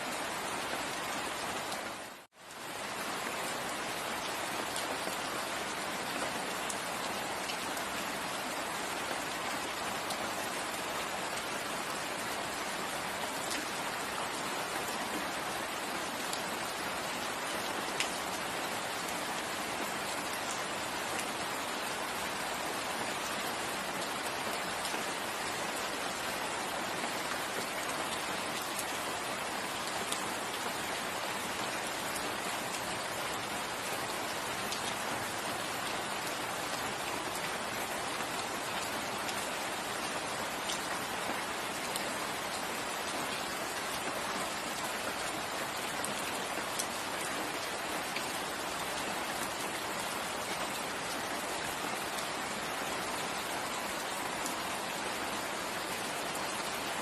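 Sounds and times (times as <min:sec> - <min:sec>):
steady rain in forest: 0:00.0 - 0:57.0.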